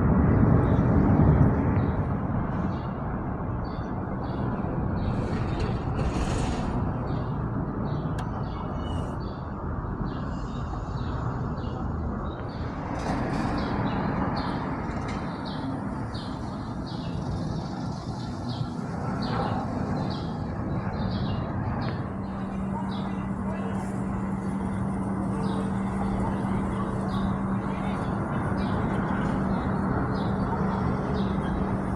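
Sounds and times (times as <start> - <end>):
background vehicle rumble: 0.0 - 31.9
small birds chirping: 5.0 - 31.9.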